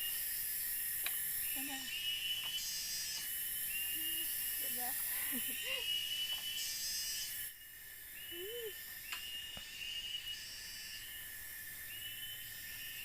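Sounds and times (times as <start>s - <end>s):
insects hissing: 0.0s - 13.0s
rising insect chirp: 0.0s - 13.0s.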